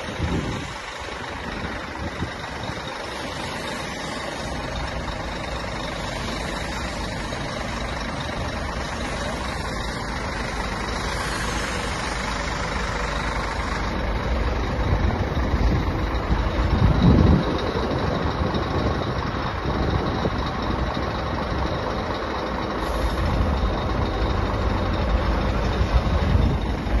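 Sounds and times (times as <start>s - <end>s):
truck diesel engine running: 0.0s - 27.0s.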